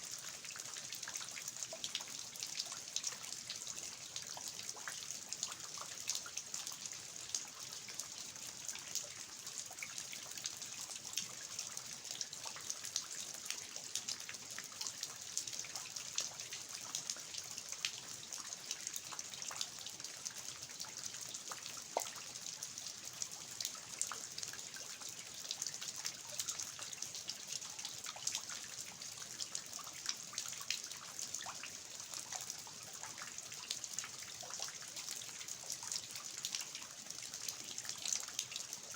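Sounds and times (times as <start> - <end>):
water dripping from eaves: 0.0 - 38.9.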